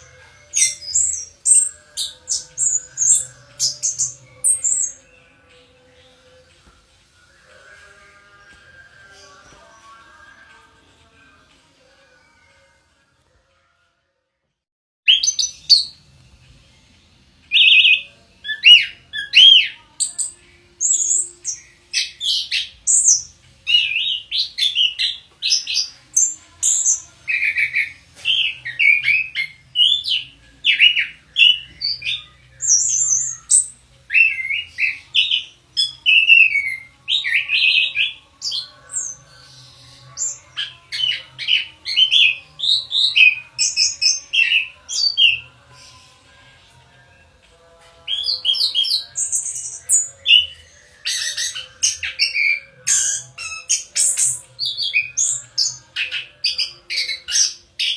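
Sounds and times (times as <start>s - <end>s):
thrush singing: 0.0s - 14.1s, 15.1s - 57.9s.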